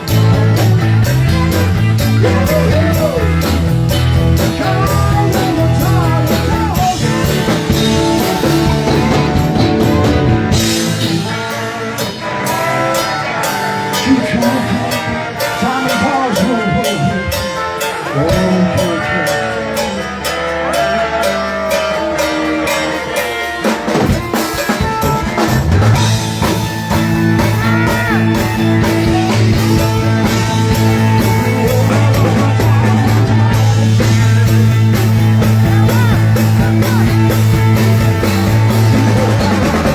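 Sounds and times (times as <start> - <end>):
drum kit beat: 0.0 - 39.9
guitar: 0.0 - 39.9
live rock band playing: 0.0 - 39.9.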